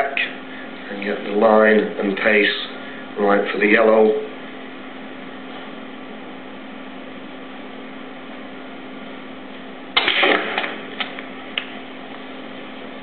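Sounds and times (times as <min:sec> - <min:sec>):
tape hiss and mains hum: 0:00.0 - 0:13.0.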